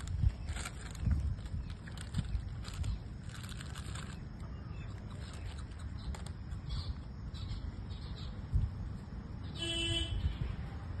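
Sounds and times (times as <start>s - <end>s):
wind buffeting microphone: 0.0s - 9.0s, 10.0s - 11.0s.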